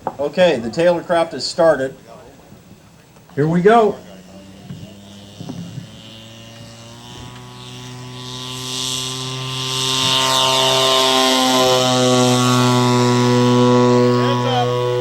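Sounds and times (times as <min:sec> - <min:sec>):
model plane engine drone: 0:00.6 - 0:15.0.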